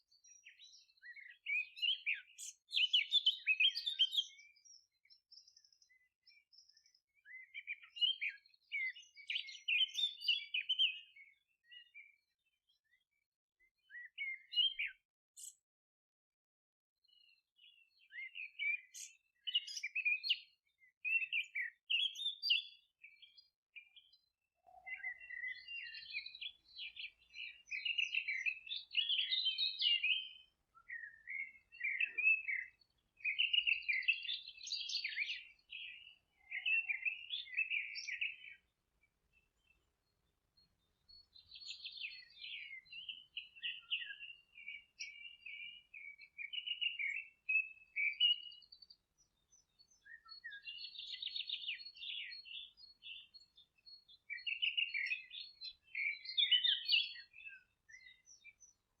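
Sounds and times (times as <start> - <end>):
songbirds chirping and trilling: 0.0 - 15.7, 17.0 - 59.0.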